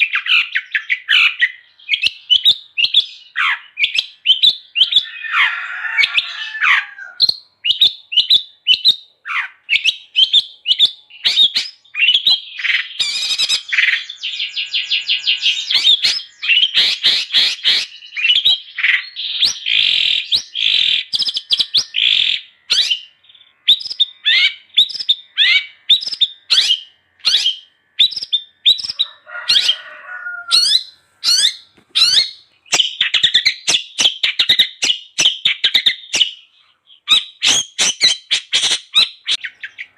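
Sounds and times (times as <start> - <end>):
harsh rasping bird call: 0.0 - 8.3, 9.2 - 39.9
bird singing sharp chirps: 0.0 - 39.9.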